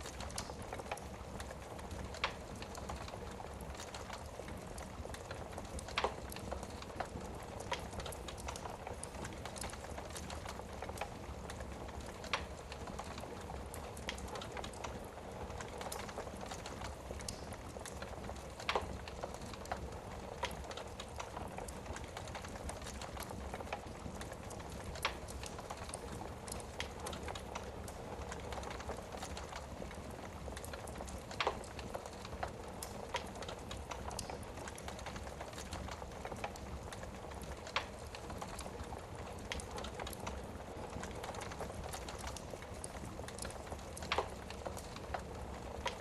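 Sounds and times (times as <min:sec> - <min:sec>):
fire crackling: 0:00.0 - 0:46.0
fire popping: 0:00.0 - 0:46.0
wood fire hissing: 0:00.0 - 0:46.0.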